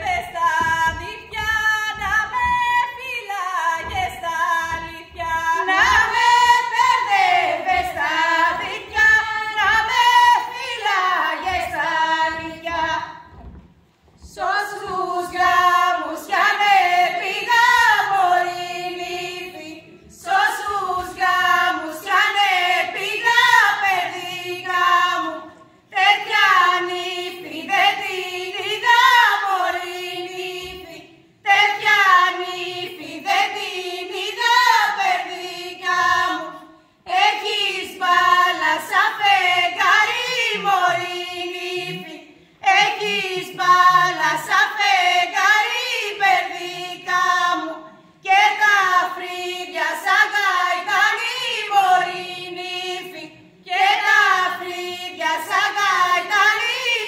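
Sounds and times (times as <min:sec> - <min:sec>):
women singing unaccompanied: 0:00.0 - 0:13.5, 0:14.2 - 0:57.0.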